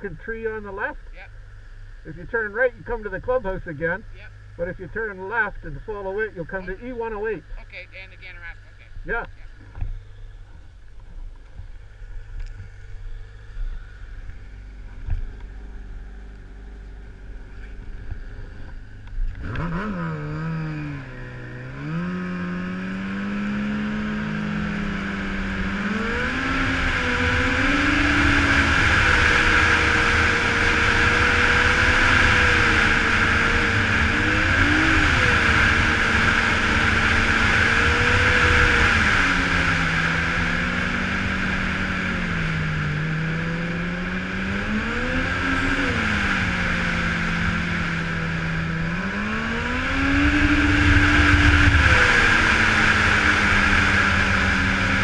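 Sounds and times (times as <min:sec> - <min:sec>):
snowmobile engine: 0:02.0 - 0:55.0.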